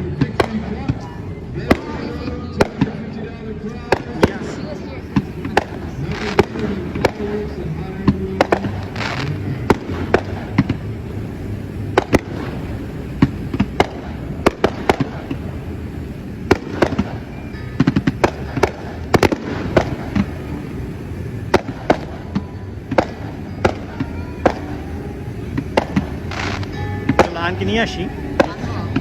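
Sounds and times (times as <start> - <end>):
fireworks bangs and pops: 0.0 - 29.0
fireworks crackling: 0.0 - 29.0.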